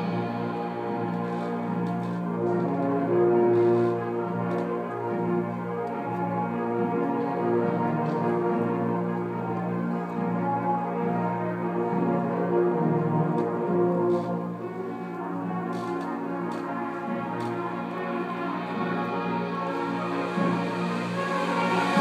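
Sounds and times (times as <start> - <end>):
brass band playing sustained chords: 0.0 - 22.0.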